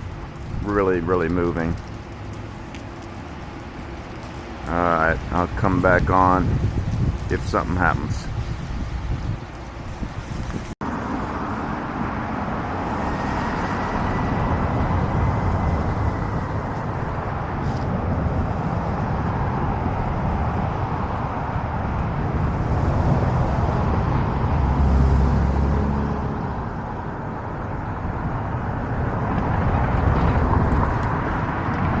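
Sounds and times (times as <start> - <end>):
cars passing rumble: 0.0 - 32.0
road traffic hum: 0.0 - 32.0.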